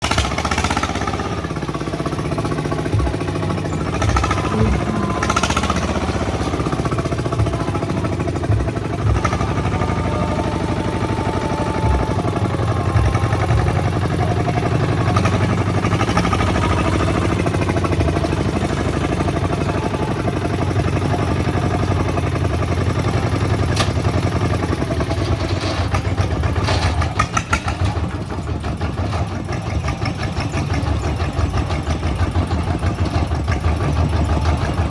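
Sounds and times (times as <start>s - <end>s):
diesel tractor engine running: 0.0s - 34.9s.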